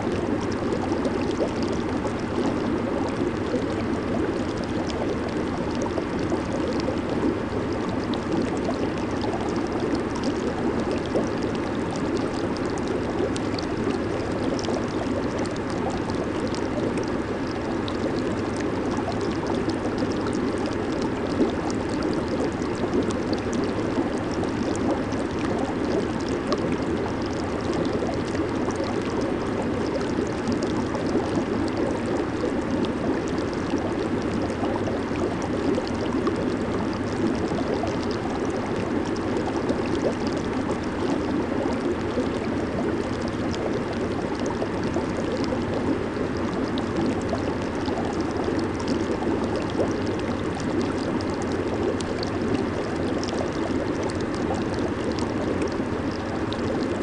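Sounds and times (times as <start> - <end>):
jacuzzi water churning and bubbling: 0.0 - 57.0.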